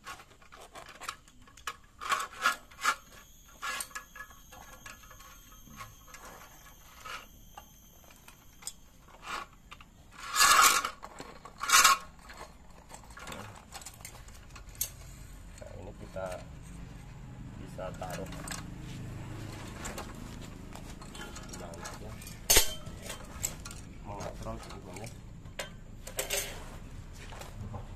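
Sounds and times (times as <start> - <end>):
steel cable rubbing and scraping: 0.0 - 27.8.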